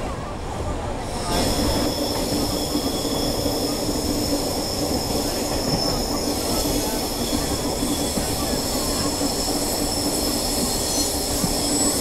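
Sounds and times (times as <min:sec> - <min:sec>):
train running rumble: 0:00.0 - 0:12.0
train wheels squealing: 0:01.0 - 0:12.0.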